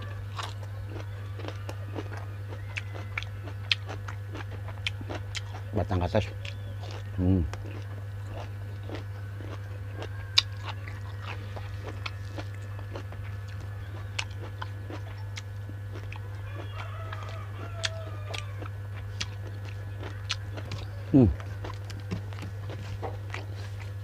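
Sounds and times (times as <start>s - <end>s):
chewing and biting: 0.0s - 24.0s
steady low hum: 0.0s - 24.0s.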